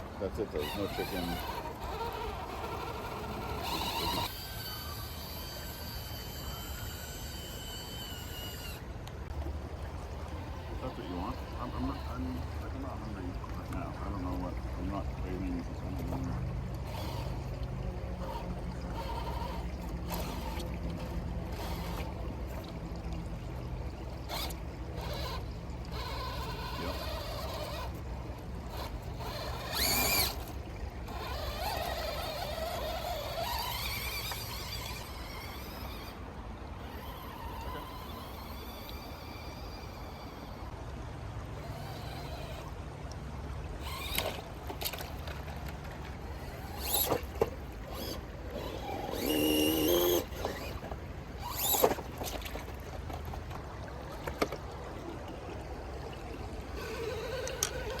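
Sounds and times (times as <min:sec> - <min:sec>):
electric motor whining: 0:00.0 - 0:40.8, 0:41.4 - 0:42.9, 0:43.6 - 0:52.7, 0:54.0 - 0:58.0
creek water trickling: 0:00.0 - 0:58.0.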